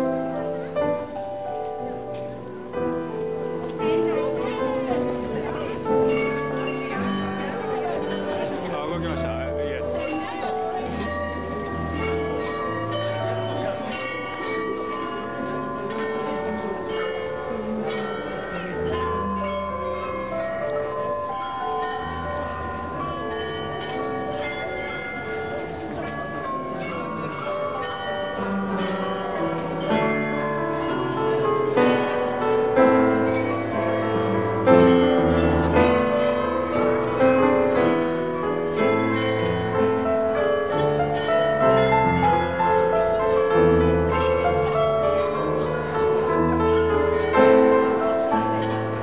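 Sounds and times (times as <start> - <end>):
bells playing a tune: 0.0 - 49.0.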